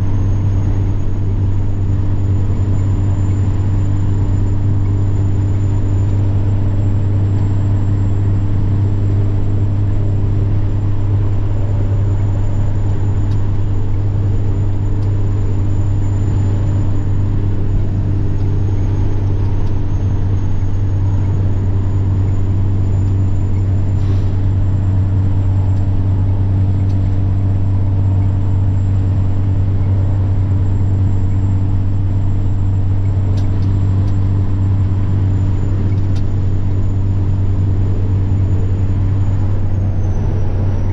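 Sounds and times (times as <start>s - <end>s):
diesel truck engine drone: 0.0s - 40.9s
turbocharger whine: 0.0s - 40.9s.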